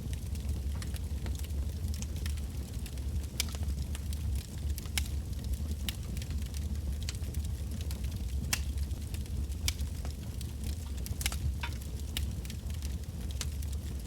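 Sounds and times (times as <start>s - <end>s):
bonfire crackling and popping: 0.0s - 14.0s
low rumble of flames: 0.0s - 14.0s.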